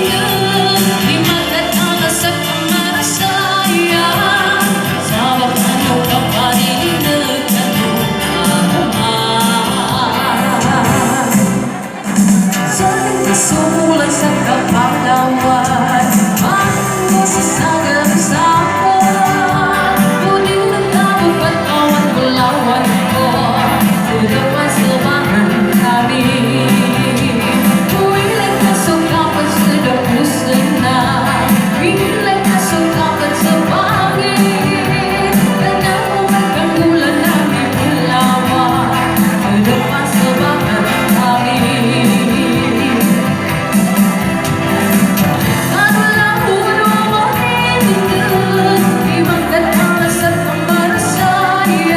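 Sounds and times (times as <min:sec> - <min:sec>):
pop song with band: 0:00.0 - 0:51.9.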